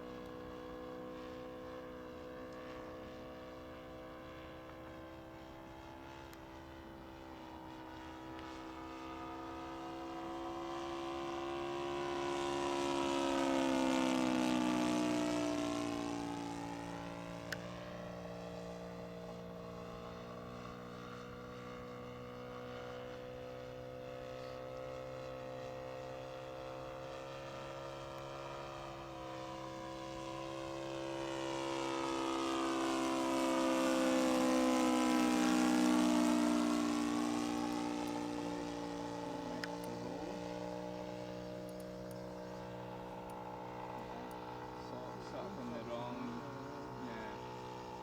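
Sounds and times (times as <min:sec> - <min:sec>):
model plane engine flying past: 0:00.0 - 0:48.0.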